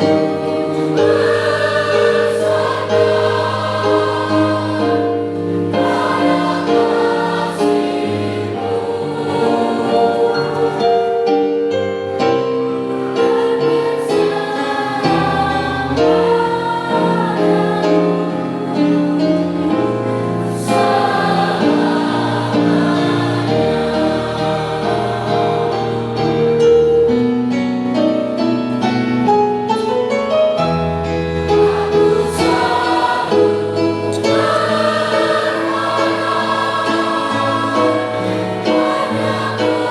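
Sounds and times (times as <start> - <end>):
choir singing: 0.0 - 27.2, 31.1 - 39.9.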